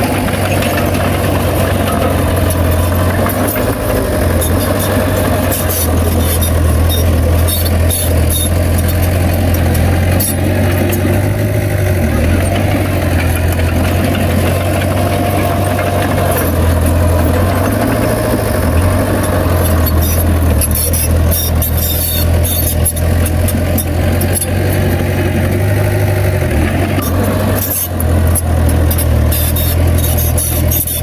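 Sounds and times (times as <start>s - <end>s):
bulldozer diesel engine humming: 0.0s - 31.0s.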